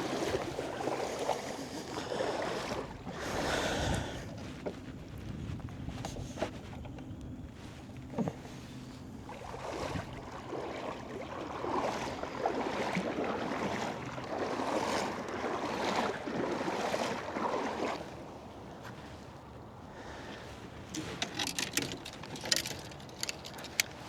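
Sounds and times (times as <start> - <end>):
water sloshing around a kayak: 0.0 - 24.0.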